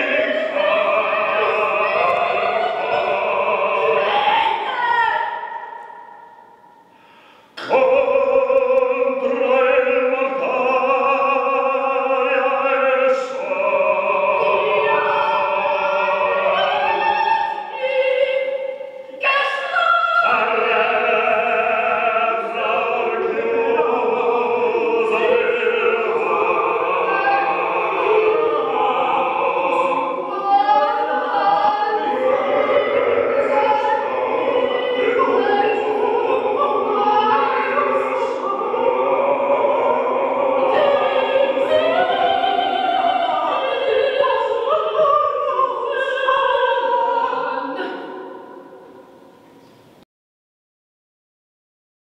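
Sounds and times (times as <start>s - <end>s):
operatic singing: 0.0s - 49.4s.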